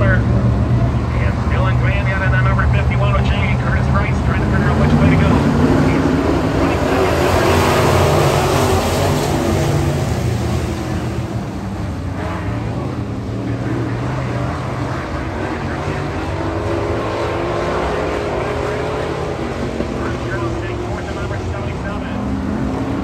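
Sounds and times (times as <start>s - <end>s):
race truck engines: 0.0s - 23.0s.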